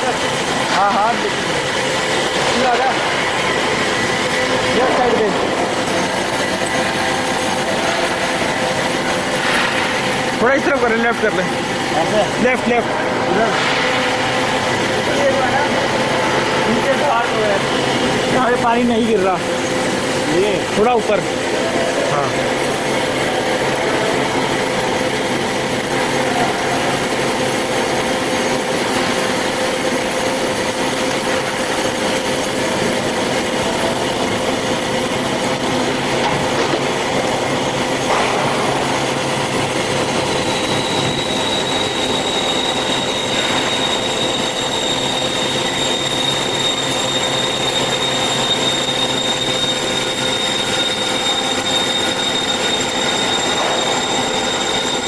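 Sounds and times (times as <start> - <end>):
band saw cutting metal: 0.0 - 55.0
higher whine: 0.0 - 55.0.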